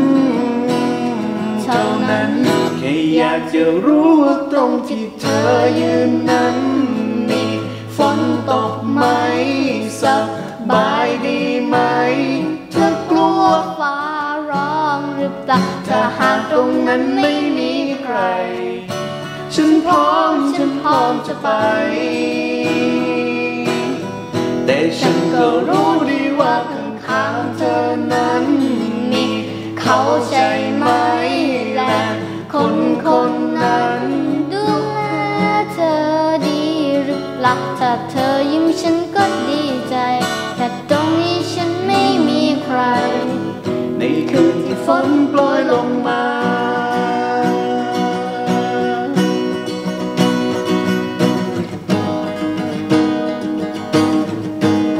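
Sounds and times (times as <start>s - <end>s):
girl singing slow song: 0.0s - 50.0s
acoustic guitar playing: 0.0s - 54.9s.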